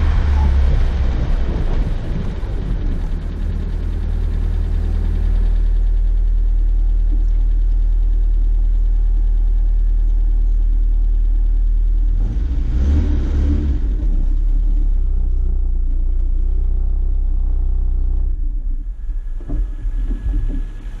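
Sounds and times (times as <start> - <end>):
vehicle engine low drone: 0.0 - 21.0.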